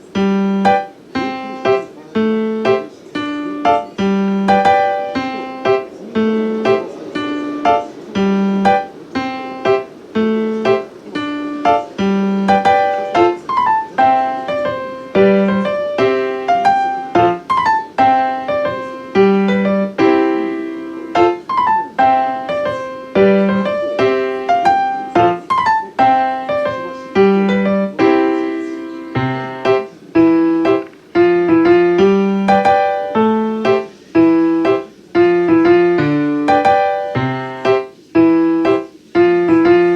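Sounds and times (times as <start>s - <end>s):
gentle piano melody: 0.0s - 39.9s.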